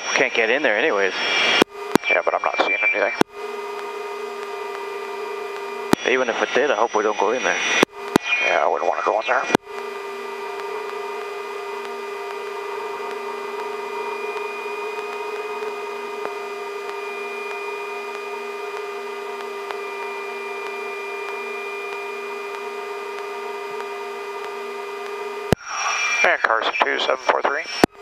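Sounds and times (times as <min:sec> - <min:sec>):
helicopter cockpit hum and whine: 0:00.0 - 0:28.0.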